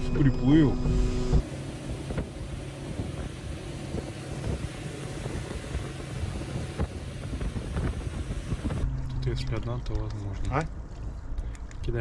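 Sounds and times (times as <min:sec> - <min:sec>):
boat motor humming: 0:00.0 - 0:09.8
wind rushing over microphone: 0:01.3 - 0:11.4.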